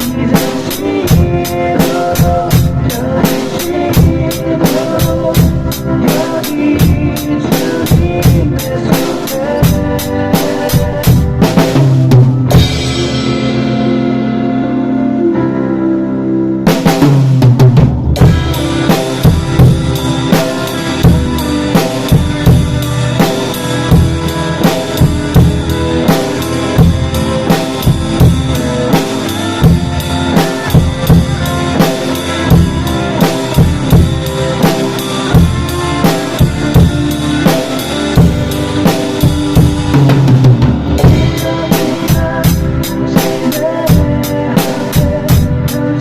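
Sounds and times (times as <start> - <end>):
drum kit kick and snare: 0.0 - 14.0, 16.7 - 45.8
worship song backing track: 0.0 - 46.0.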